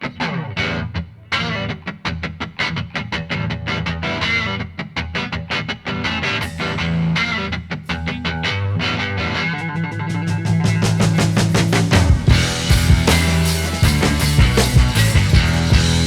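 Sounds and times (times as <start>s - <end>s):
upbeat guitar music with beat: 0.0s - 16.0s.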